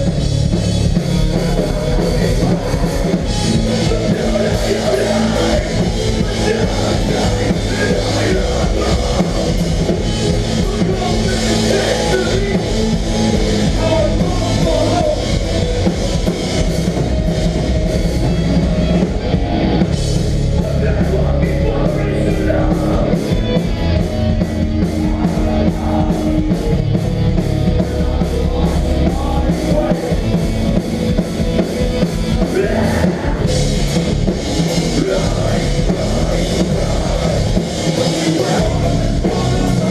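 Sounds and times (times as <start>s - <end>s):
hardcore band playing live: 0.0s - 39.9s.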